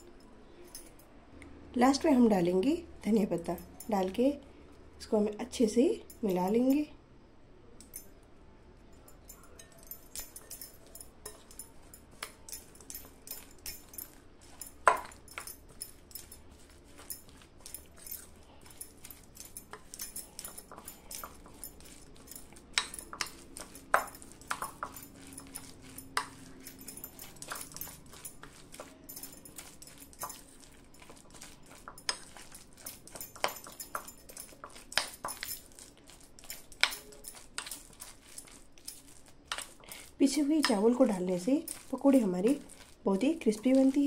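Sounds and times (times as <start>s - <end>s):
spoon clinking and scraping bowl: 3.0s - 4.3s, 9.1s - 44.0s.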